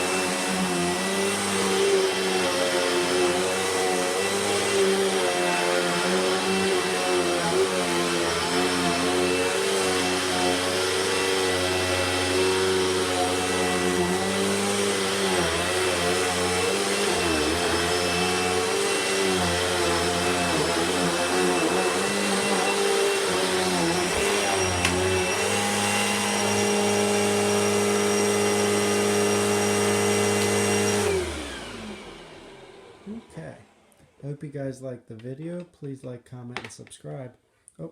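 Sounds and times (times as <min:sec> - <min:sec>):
vacuum cleaner motor whine: 0:00.0 - 0:33.9.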